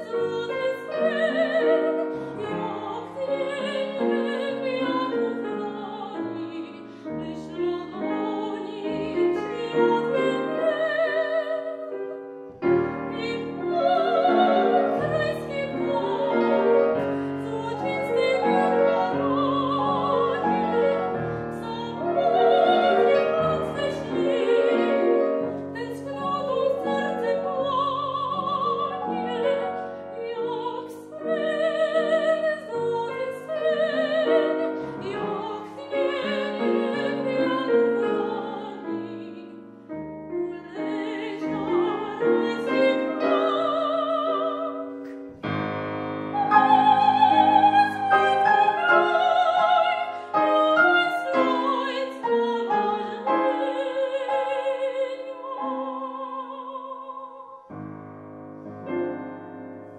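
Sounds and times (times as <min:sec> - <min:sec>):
woman singing operatically: 0:00.0 - 0:12.1, 0:13.0 - 0:39.6, 0:40.5 - 0:45.0, 0:46.3 - 0:57.7
grand piano: 0:00.0 - 0:59.9.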